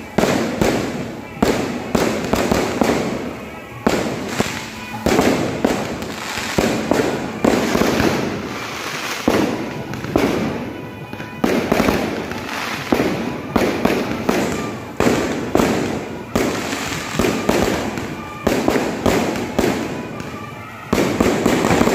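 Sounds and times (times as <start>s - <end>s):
firework bangs with crackle: 0.0s - 21.9s.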